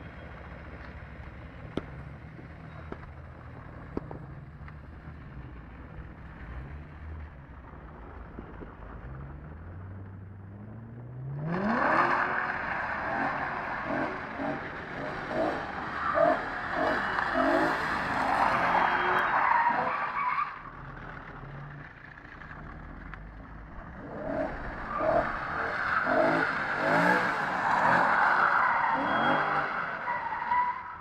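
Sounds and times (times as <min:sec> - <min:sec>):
tyres skidding: 0:00.0 - 0:31.0
car engine revving: 0:03.0 - 0:30.7.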